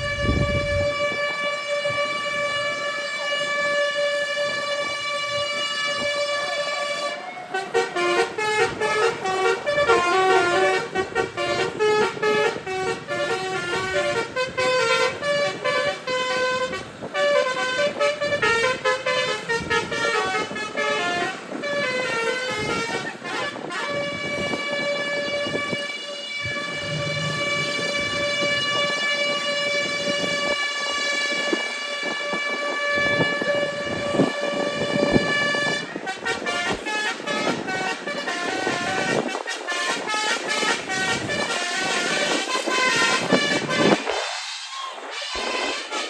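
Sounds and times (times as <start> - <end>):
long held horn note: 0.0 - 44.2
multi-tone bus horn melody: 0.0 - 46.0.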